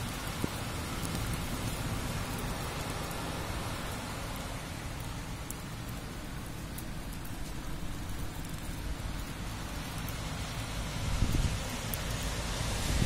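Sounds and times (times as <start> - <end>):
heavy rain hissing: 0.0 - 13.0
raindrops ticking close by: 0.0 - 13.0.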